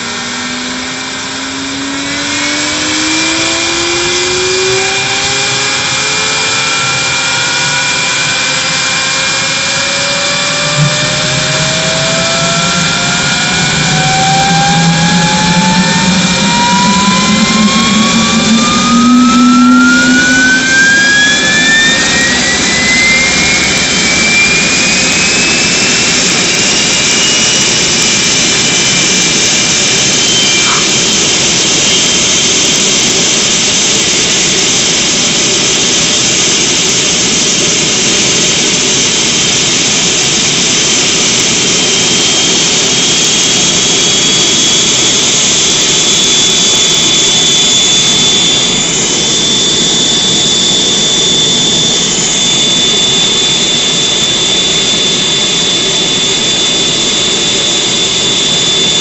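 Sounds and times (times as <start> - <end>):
high turbine whine: 0.0 - 59.0
jet engine rush: 0.0 - 59.0.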